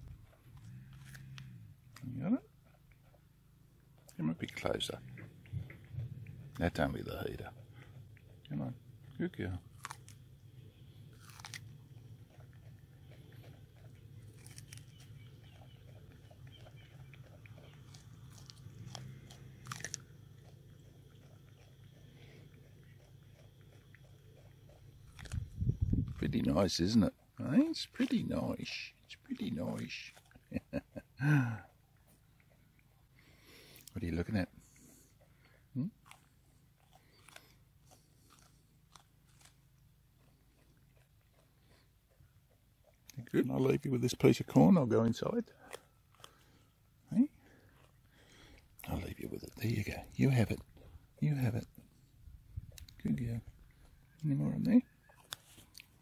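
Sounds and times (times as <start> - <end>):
animal crunching corn: 0.0 - 56.0.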